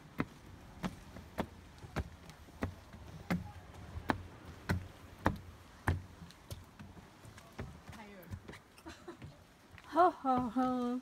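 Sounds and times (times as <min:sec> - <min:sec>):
footsteps on wooden boardwalk: 0:00.0 - 0:11.0.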